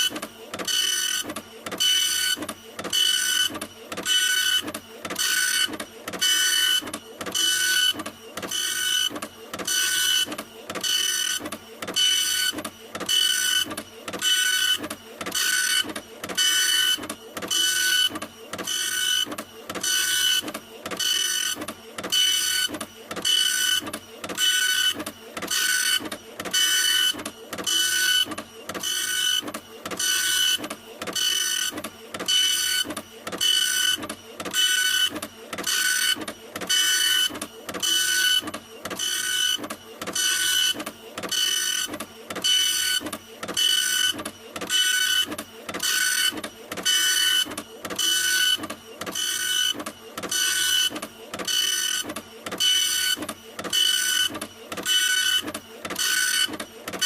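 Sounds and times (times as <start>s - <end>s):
printer mechanism whirring: 0.0s - 57.0s.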